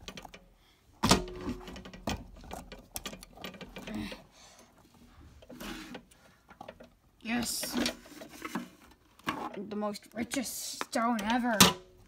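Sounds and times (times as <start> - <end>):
handling clicks and rustling: 0.0 - 12.0.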